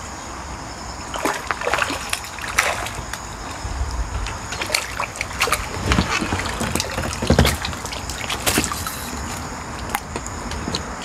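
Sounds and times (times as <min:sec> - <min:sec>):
landing net dipping in water: 0:01.1 - 0:10.2
water dripping: 0:01.1 - 0:10.9
fish thrashing and splashing: 0:01.1 - 0:11.0.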